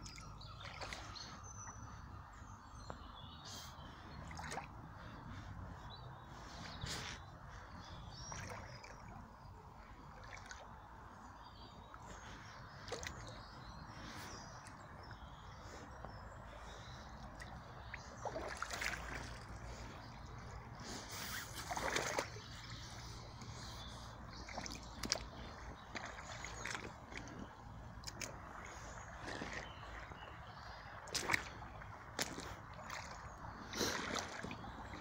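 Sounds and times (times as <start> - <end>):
boots splashing through water: 0.0 - 2.0, 2.9 - 35.0
stream trickling: 0.0 - 35.0.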